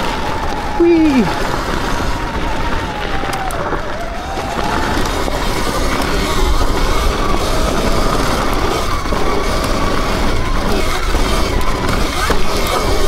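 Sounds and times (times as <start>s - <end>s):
electric motor whining: 0.0s - 13.0s
wind rumble on microphone: 0.0s - 13.0s.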